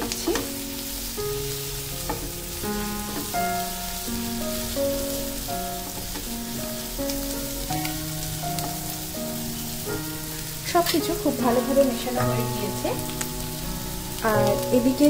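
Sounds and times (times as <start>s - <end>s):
background music with held notes: 0.0s - 15.0s
vegetables and egg sizzling: 0.0s - 15.0s.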